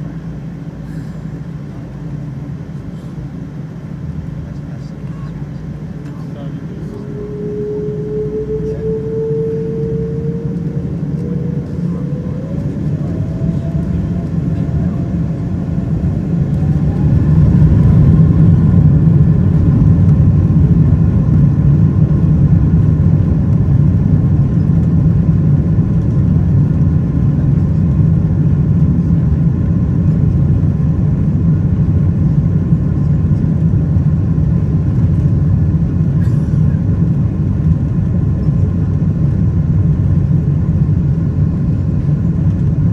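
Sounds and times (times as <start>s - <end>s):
jet engine rumble: 0.0s - 42.9s
jet engine whine rising: 0.0s - 42.9s.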